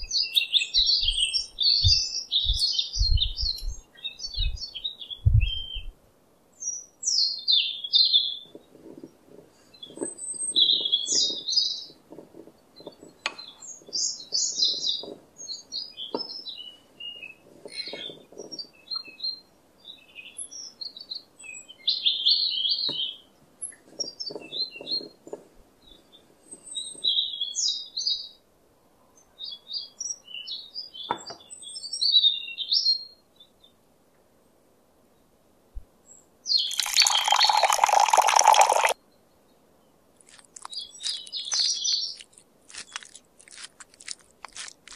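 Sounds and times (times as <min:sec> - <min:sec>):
small birds chirping: 0:00.0 - 0:28.4, 0:29.1 - 0:33.8, 0:36.0 - 0:44.9.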